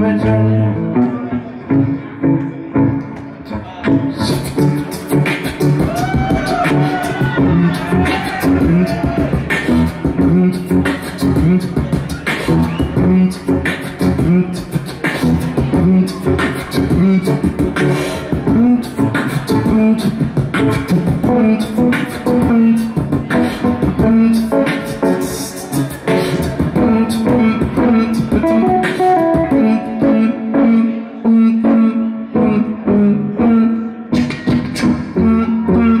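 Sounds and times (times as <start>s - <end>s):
hummed bass notes: 0.0s - 36.0s
beatboxing percussion hits: 2.4s - 7.2s, 8.1s - 30.3s, 34.1s - 36.0s.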